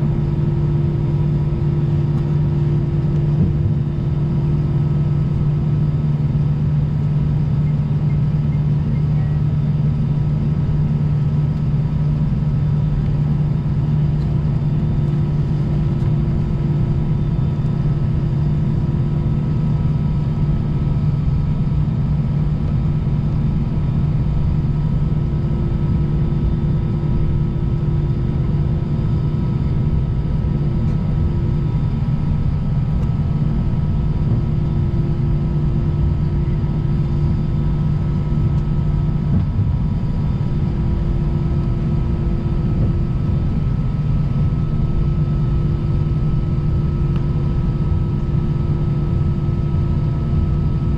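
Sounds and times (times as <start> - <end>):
faint steady whines: 0.0 - 50.9
jet engines idling rumble: 0.0 - 50.9.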